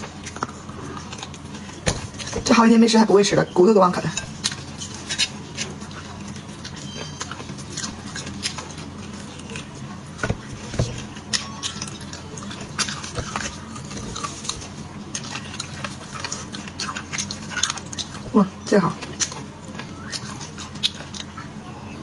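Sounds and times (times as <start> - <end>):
chewing and sucking bone marrow: 0.0 - 2.5, 4.2 - 22.0.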